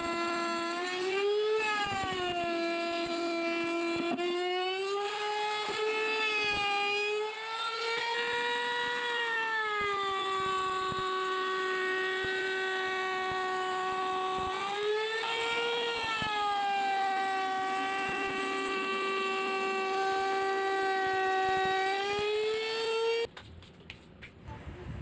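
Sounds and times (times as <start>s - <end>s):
trim router whining: 0.0s - 23.3s.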